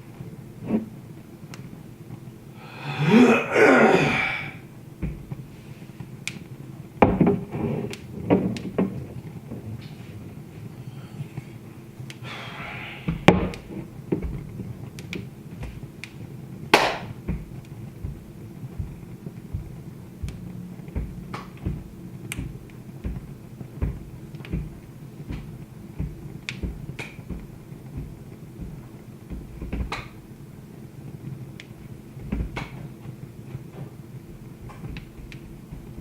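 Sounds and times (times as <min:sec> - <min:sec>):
wood fire crackling: 0:00.0 - 0:03.4, 0:04.3 - 0:36.0
low steady hum: 0:00.0 - 0:36.0.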